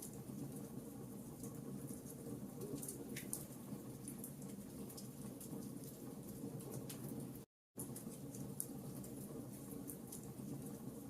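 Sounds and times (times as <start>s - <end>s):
burning wood crackling and popping: 0.0s - 10.9s
low rumble of flames: 0.0s - 11.0s.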